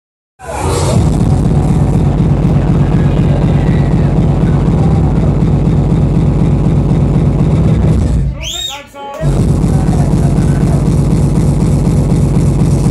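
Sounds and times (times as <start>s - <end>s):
very fast kick-drum beat: 0.9s - 12.9s.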